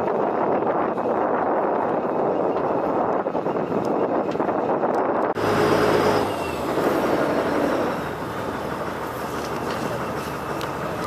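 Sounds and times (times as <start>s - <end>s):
wind: 0.0s - 11.0s
boat engine running: 0.1s - 11.0s.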